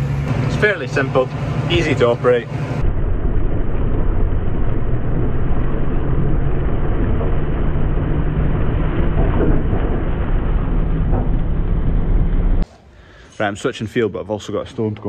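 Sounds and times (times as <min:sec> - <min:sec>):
tractor engine under load: 0:00.0 - 0:12.6.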